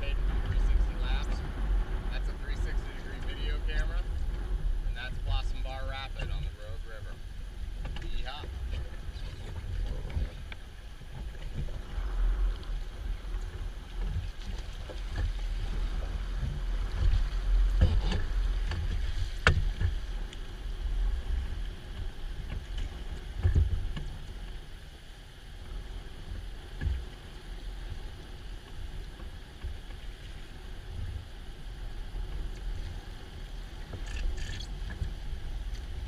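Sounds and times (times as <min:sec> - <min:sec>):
steady low rumble: 0:00.0 - 0:36.0
water splashing and lapping: 0:00.0 - 0:36.0.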